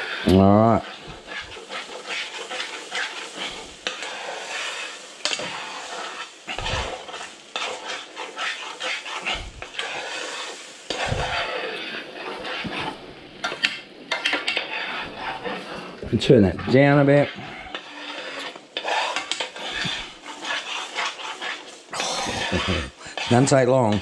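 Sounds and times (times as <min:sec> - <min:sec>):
frying sizzle: 0:00.0 - 0:24.0
metal spoon scraping pan: 0:00.0 - 0:24.0.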